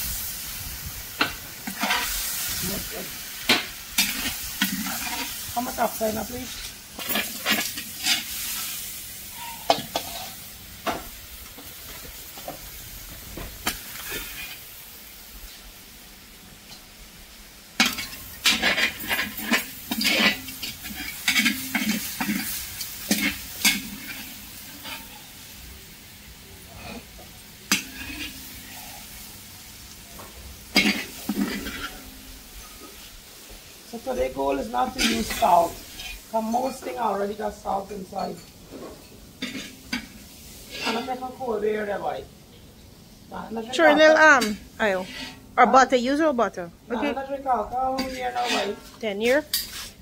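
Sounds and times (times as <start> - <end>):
food frying in a pot: 0.0 - 46.0, 46.7 - 50.0.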